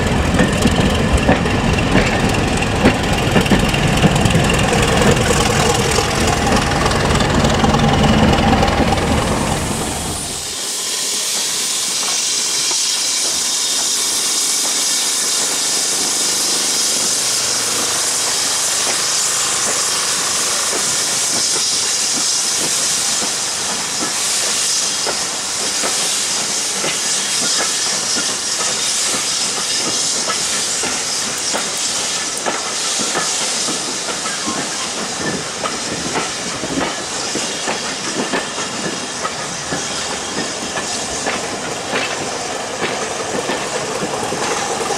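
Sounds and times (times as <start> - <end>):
steam locomotive hissing: 0.0 - 44.9
train wheels clicking over rail joints: 0.0 - 44.9.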